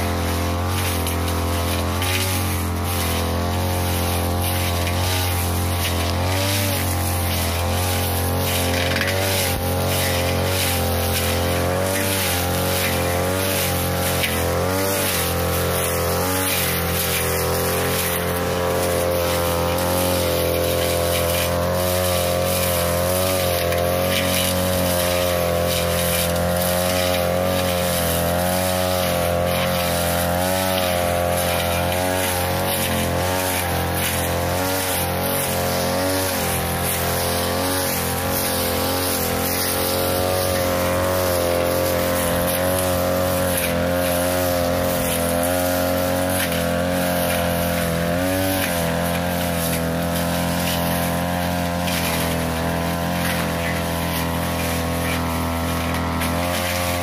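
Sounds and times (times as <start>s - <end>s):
brush cutter cutting grass: 0.0s - 57.0s.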